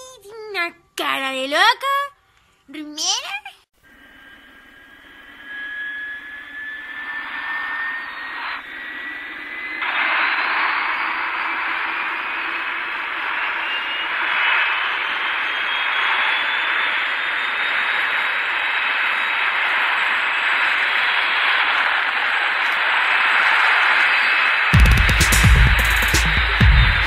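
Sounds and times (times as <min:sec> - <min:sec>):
high whine rising in pitch: 0:03.8 - 0:27.0.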